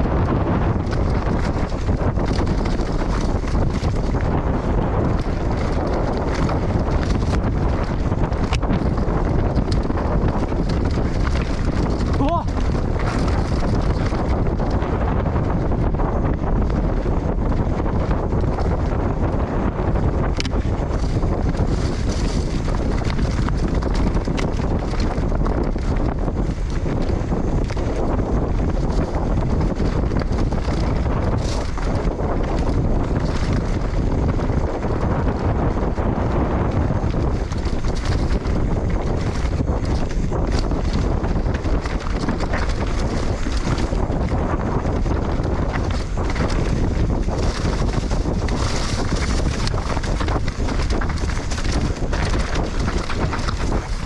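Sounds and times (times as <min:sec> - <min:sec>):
tyre and trail noise: 0:00.0 - 0:54.0
wind rushing over microphone: 0:00.0 - 0:54.0
bike clicks and knocks: 0:00.1 - 0:54.0.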